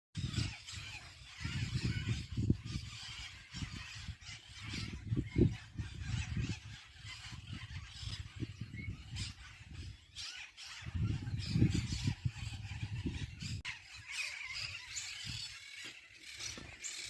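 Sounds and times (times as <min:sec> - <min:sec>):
parakeets squawking and chattering: 0:00.2 - 0:17.0.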